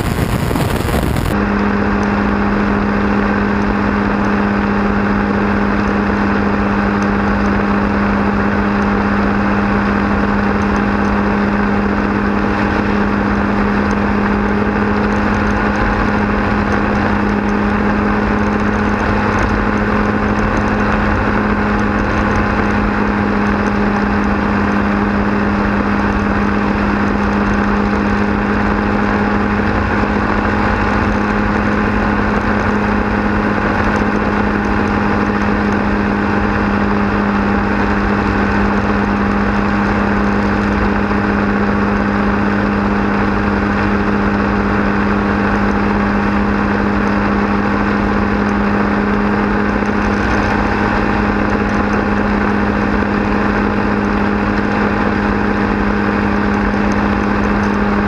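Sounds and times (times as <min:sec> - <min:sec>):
propeller engine droning: 0:00.0 - 0:58.0
wind rushing and buffeting: 0:00.0 - 0:58.0.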